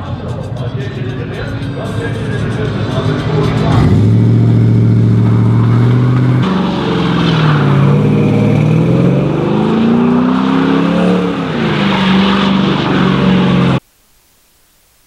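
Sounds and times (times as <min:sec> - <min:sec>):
truck engine revving: 0:00.8 - 0:13.8.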